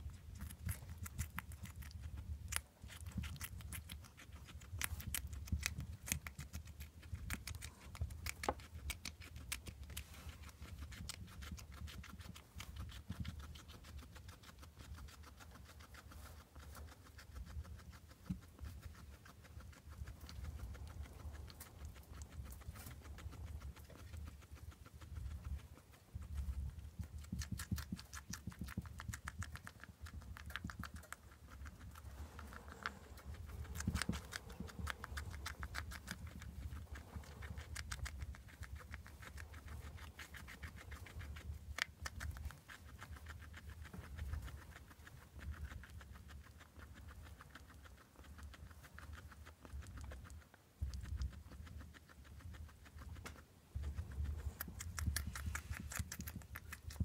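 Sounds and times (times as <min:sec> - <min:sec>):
guinea pig chewing tomato: 0:00.0 - 0:57.0.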